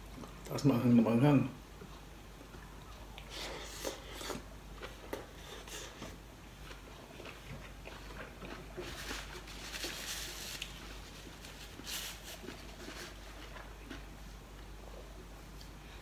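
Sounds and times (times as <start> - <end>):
man chewing food: 0.0 - 0.5, 1.7 - 16.0.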